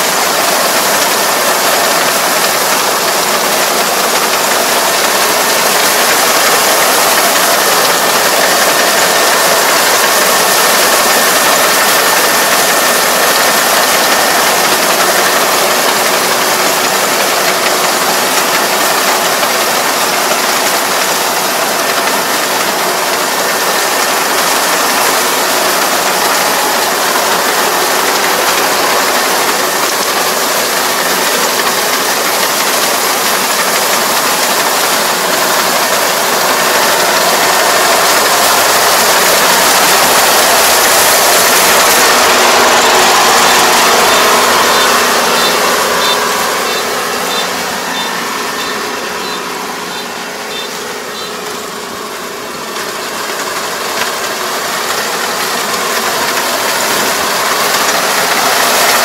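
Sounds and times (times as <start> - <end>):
combine harvester mechanical clatter: 0.0 - 59.0.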